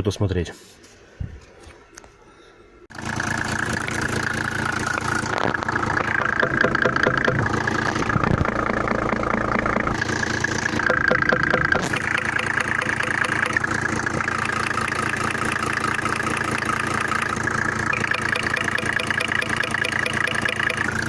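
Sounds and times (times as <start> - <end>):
diesel engine idling: 2.9 - 21.0
injector knocking: 3.2 - 21.0.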